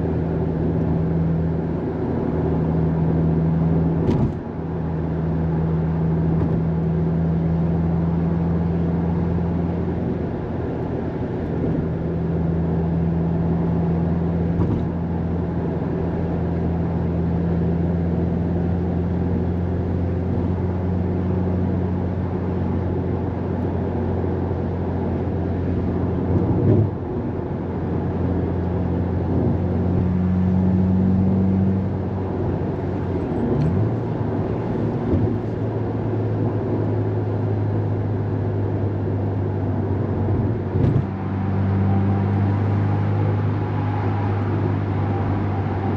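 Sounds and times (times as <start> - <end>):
car engine droning: 0.0 - 45.9
road noise: 0.0 - 45.9.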